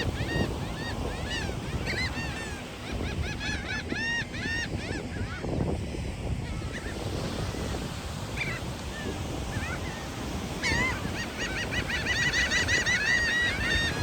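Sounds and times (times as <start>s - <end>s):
seagulls calling: 0.0s - 5.6s, 8.3s - 14.0s.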